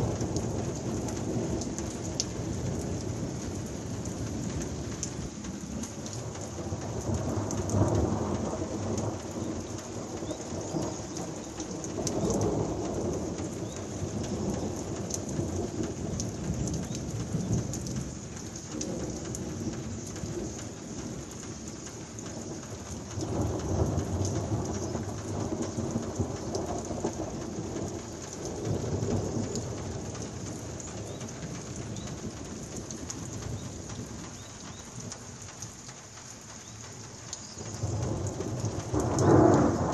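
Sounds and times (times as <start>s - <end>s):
thunder rolling: 0.0s - 35.4s, 37.4s - 39.9s
close raindrops ticking: 0.0s - 39.9s
heavy rain hissing: 0.0s - 39.9s.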